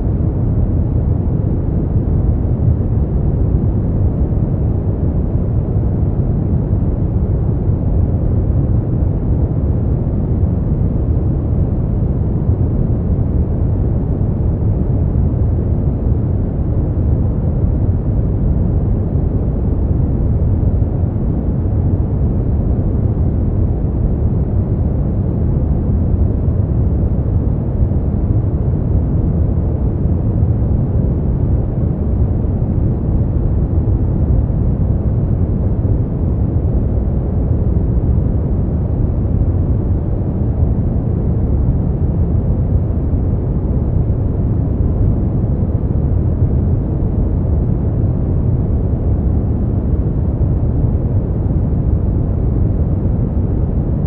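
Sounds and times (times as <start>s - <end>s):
deep rushing brown noise: 0.0s - 54.0s.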